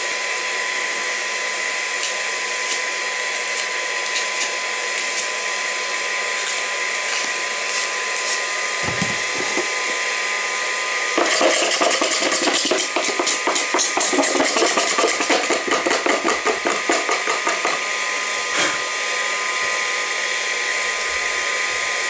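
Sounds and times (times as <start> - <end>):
hot-air gun blowing: 0.0 - 22.0.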